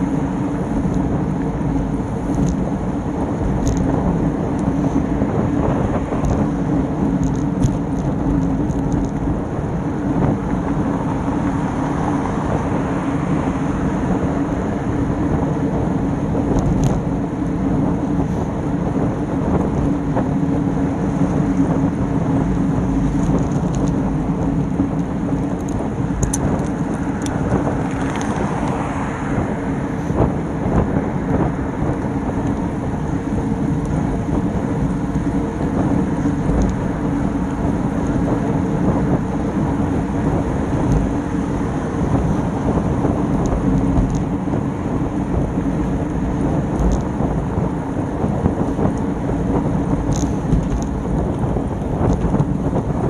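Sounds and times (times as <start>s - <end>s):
bicycle road rumble: 0.0s - 53.0s
wind rushing over microphone: 0.0s - 53.0s.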